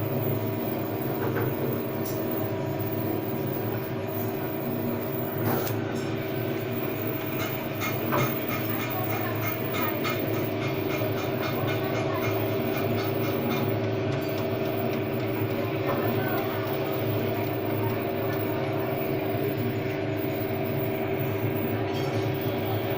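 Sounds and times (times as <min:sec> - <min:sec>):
lathe humming and whining: 0:00.0 - 0:22.9.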